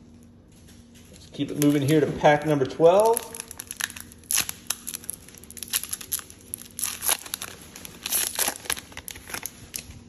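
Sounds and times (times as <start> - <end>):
wrapper tearing and crinkling: 1.4 - 10.0.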